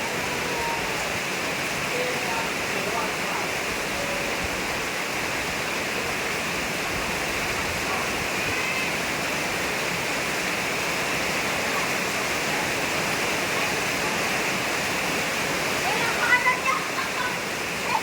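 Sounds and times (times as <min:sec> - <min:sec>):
rain pouring: 0:00.0 - 0:18.0.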